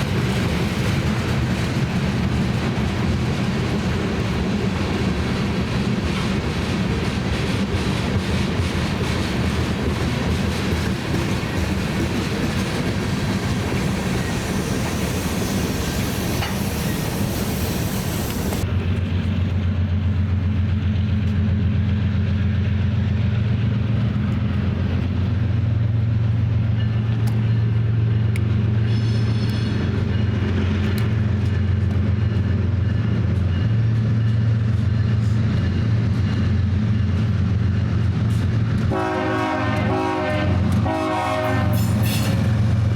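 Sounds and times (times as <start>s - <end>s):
diesel locomotive engines droning: 0.0s - 42.9s
train rail noise: 0.0s - 42.9s.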